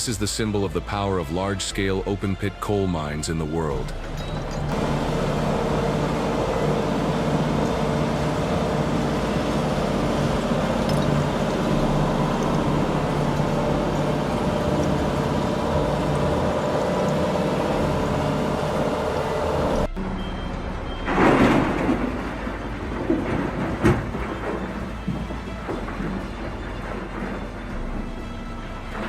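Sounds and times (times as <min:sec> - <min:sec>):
heavy machinery engine drone: 0:03.6 - 0:29.0.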